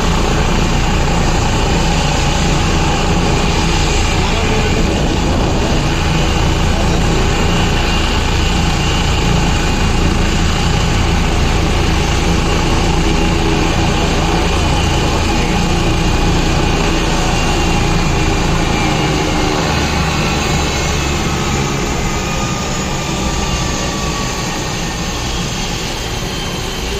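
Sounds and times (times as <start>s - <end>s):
helicopter rotor and engine: 0.0s - 26.9s.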